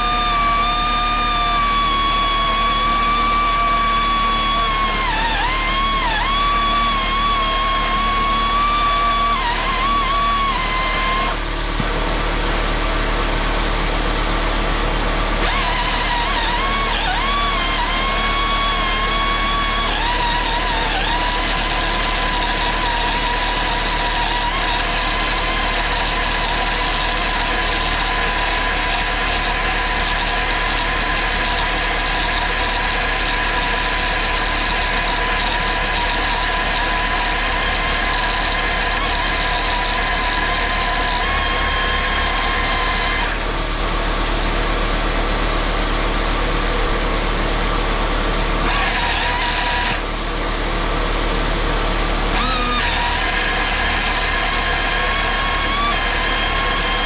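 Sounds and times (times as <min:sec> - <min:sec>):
angle grinder high-pitched whine: 0:00.0 - 0:11.9, 0:15.4 - 0:44.0, 0:48.6 - 0:50.4, 0:51.6 - 0:57.0.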